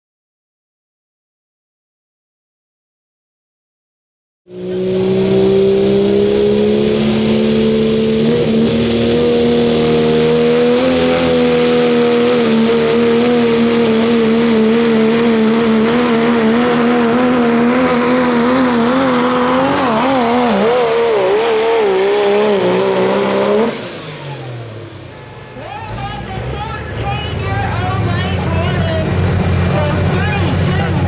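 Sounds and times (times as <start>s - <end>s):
vehicle engine running at high revs: 4.5s - 31.0s.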